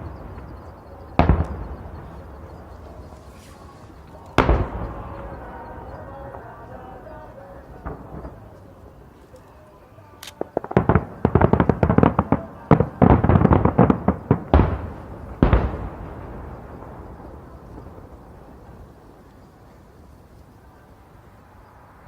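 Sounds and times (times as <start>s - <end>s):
heavy firework booms: 0.0s - 8.9s, 10.4s - 19.8s
fireworks crackling bangs: 0.0s - 22.0s.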